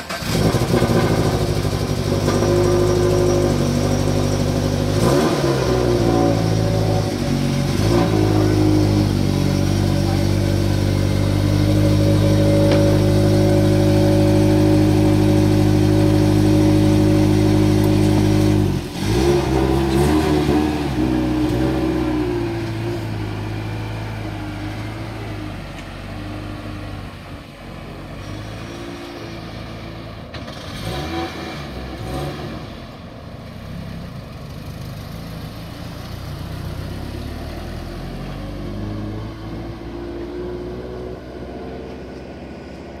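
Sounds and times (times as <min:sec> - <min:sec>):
car engine pulling away: 0:00.0 - 0:43.0.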